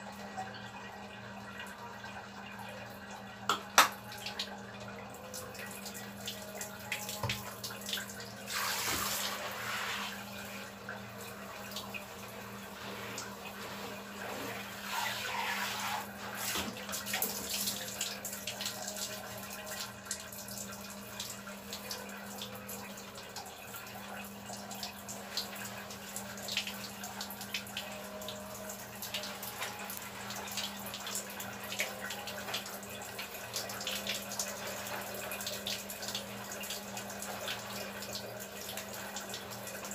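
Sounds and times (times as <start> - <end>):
water running and splashing: 5.3 - 39.9.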